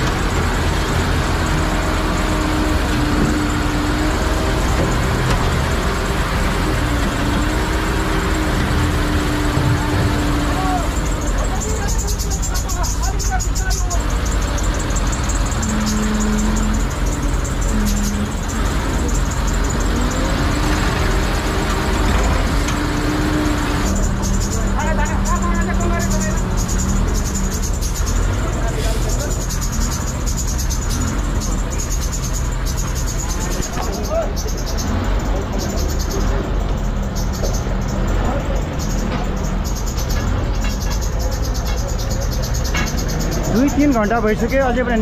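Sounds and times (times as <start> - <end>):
heavy vehicle engine running: 0.0 - 45.0
road noise: 0.0 - 45.0.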